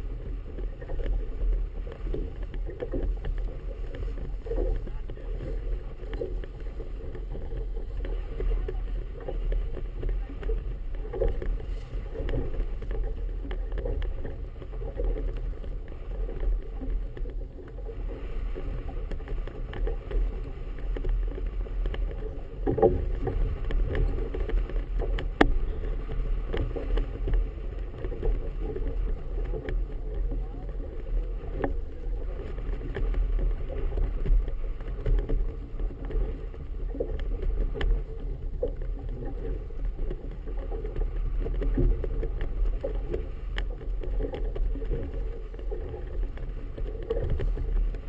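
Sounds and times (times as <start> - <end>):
water slapping against hull: 0.0 - 48.0
wind buffeting microphone: 0.0 - 48.0.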